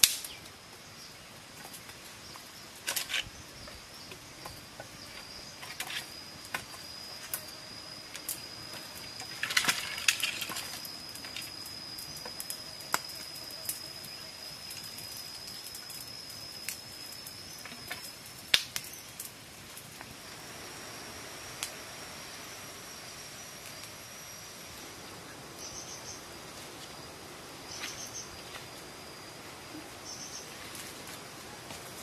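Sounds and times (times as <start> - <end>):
insect drone: 0.0 - 32.0.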